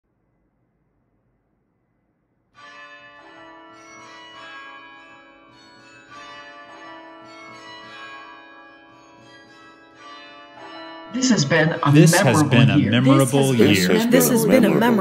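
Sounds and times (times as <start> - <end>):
bells ringing: 2.6 - 15.0.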